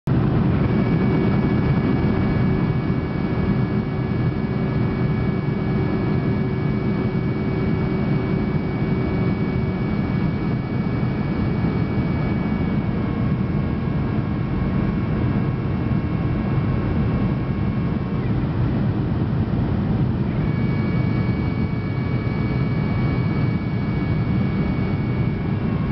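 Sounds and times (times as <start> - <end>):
jet engine and air roar: 0.1 - 25.9
low hum: 0.1 - 25.9
steady whining tones: 0.1 - 25.9.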